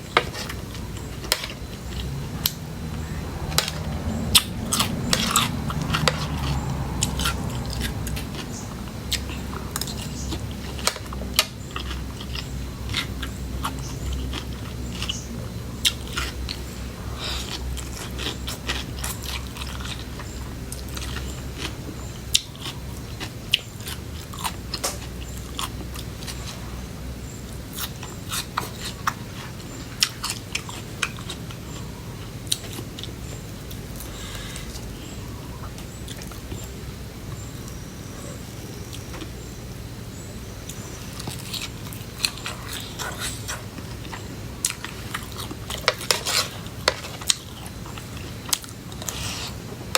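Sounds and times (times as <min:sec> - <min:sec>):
chewing crunchy food: 0:00.0 - 0:39.7, 0:40.3 - 0:49.9
steady low hum: 0:00.0 - 0:49.9.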